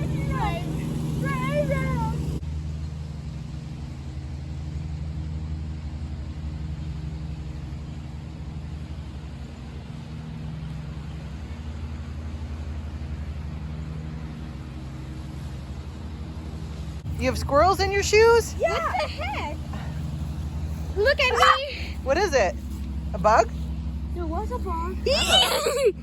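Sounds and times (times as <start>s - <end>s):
lawnmower engine droning: 0.0s - 26.0s.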